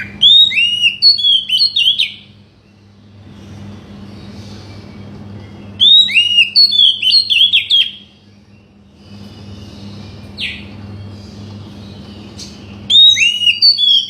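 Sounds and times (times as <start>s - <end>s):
bird whistling and chirping: 0.0s - 3.0s, 4.2s - 14.0s.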